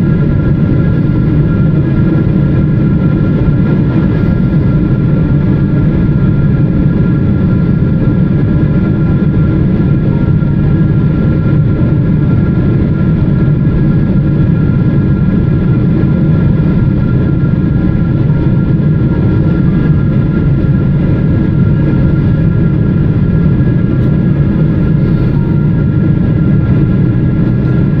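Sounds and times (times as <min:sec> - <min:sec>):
airplane cabin roar: 0:00.0 - 0:28.0
faint steady whining tones: 0:00.0 - 0:28.0.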